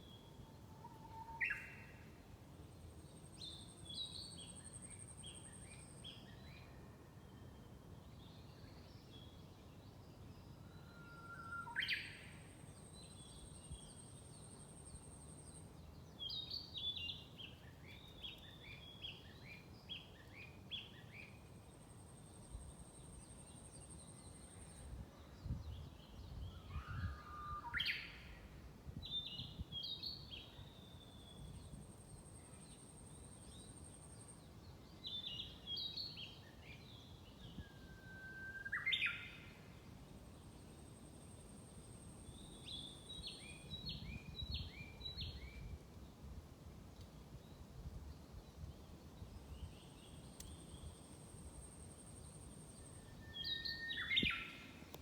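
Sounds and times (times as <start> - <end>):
songbirds singing: 3.1 - 55.0.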